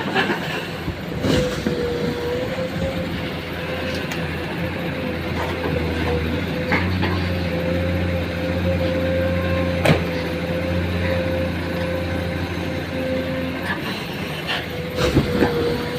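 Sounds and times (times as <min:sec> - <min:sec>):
vehicle engine humming: 0:00.0 - 0:15.9.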